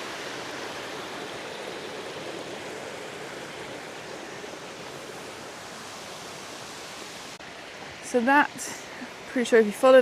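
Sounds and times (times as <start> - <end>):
waterfall and stream rushing: 0.0 - 10.0.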